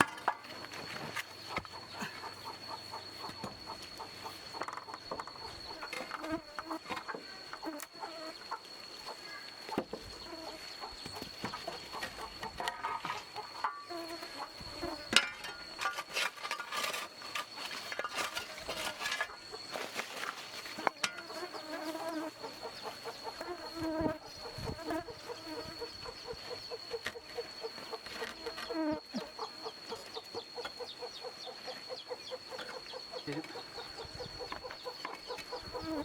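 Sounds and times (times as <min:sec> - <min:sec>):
fast pulsing insect call: 0:00.0 - 0:36.0
insects droning: 0:00.0 - 0:36.0
chickens clucking: 0:01.2 - 0:14.6, 0:16.3 - 0:36.0.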